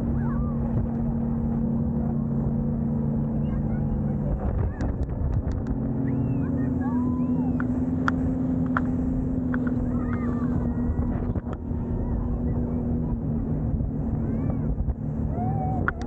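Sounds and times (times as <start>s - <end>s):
boat engine humming: 0.0s - 16.0s
faint voices: 0.0s - 16.0s.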